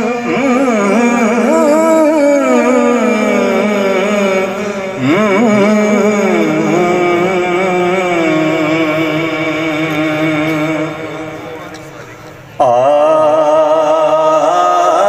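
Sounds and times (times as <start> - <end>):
man singing: 0.0 - 11.6, 12.6 - 15.0.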